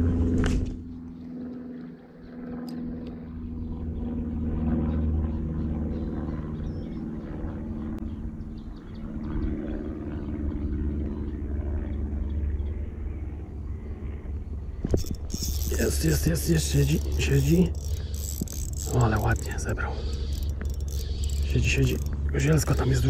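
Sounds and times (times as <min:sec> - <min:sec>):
motor rumbling: 0:00.0 - 0:23.0.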